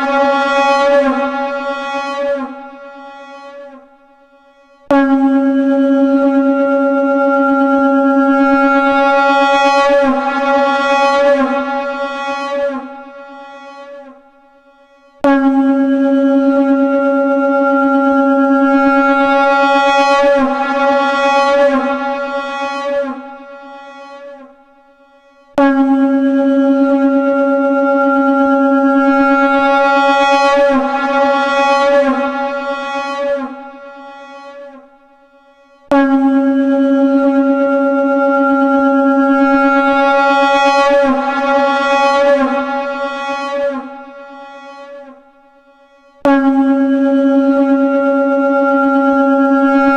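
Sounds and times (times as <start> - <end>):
conch shell blown: 0.0 - 49.9.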